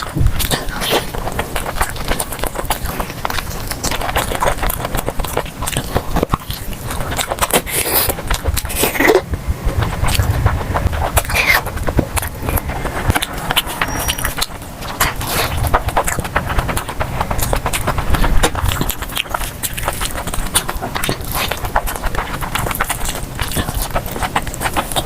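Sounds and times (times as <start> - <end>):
chewing food: 0.0 - 25.0.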